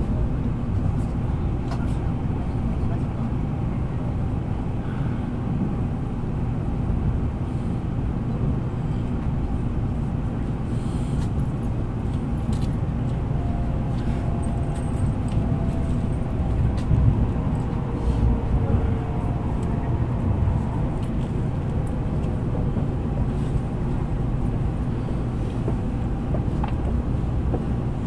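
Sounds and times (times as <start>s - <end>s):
train running gear rumble: 0.0s - 28.0s.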